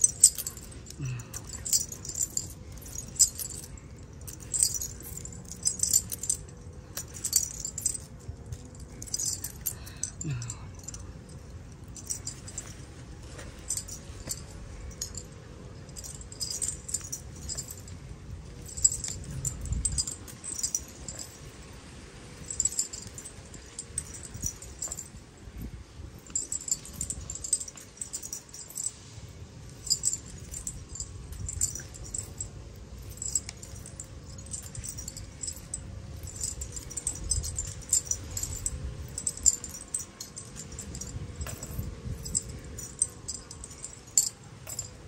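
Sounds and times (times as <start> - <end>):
faint steady hum: 0.0 - 45.0
small metal pieces jingling: 0.0 - 45.0.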